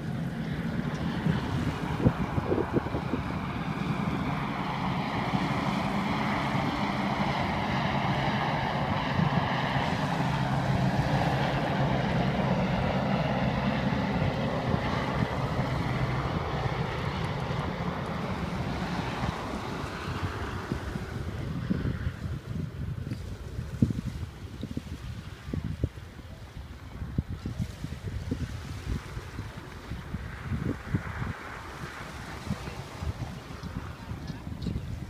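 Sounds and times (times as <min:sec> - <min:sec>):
helicopter flying overhead: 0:00.0 - 0:35.0.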